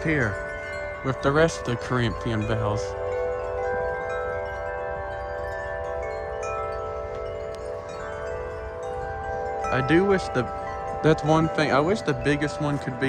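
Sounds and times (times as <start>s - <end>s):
large wind chimes ringing: 0.0s - 13.0s.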